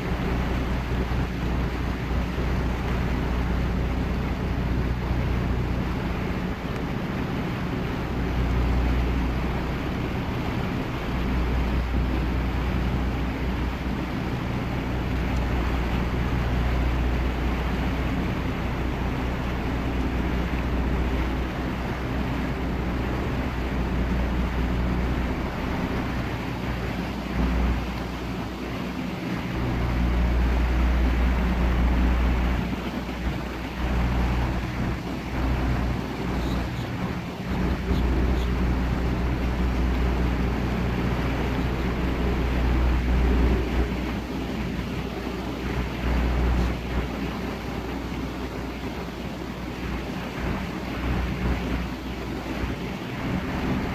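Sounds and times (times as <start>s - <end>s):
boat engine running: 0.0s - 53.9s
water noise: 0.0s - 53.9s.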